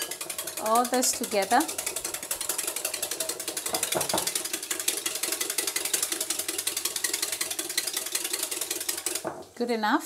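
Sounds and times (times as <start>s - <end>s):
whisk clicking against glass bowl: 0.0s - 9.3s.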